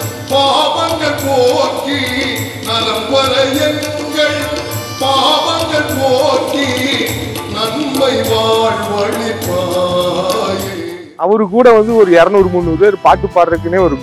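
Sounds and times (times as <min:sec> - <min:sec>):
man singing through microphone: 0:00.0 - 0:11.2
musical accompaniment with beat: 0:00.0 - 0:14.0.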